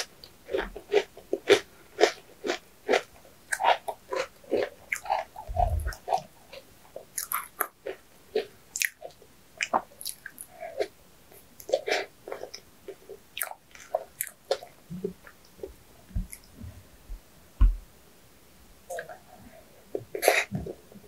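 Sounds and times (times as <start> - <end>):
mouth chewing sweets: 0.0 - 16.6, 18.9 - 20.8.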